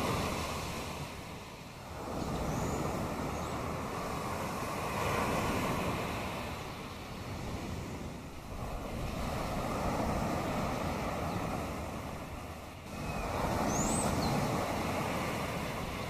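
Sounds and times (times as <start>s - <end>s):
waves washing ashore: 0.0s - 16.0s.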